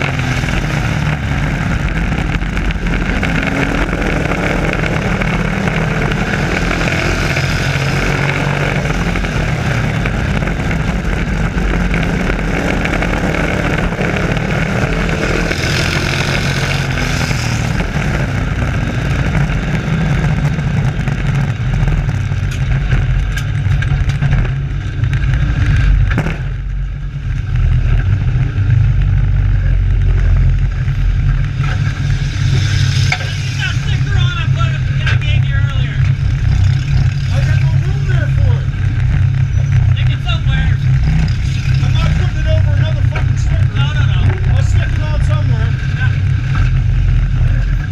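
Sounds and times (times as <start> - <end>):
race truck engines droning: 0.0 - 47.9.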